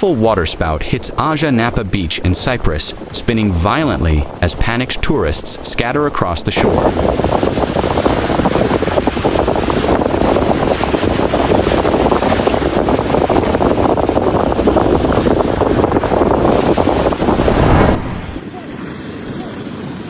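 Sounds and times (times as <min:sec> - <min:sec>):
strong wind buffeting microphone: 0:00.0 - 0:20.0.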